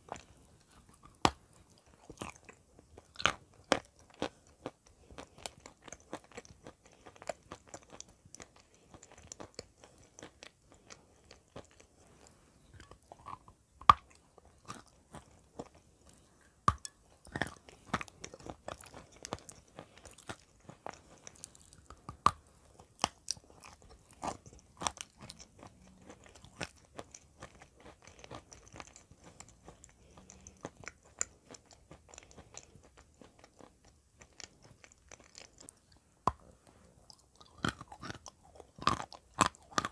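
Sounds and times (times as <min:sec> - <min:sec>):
chewing hard clay: 0:00.0 - 0:39.9.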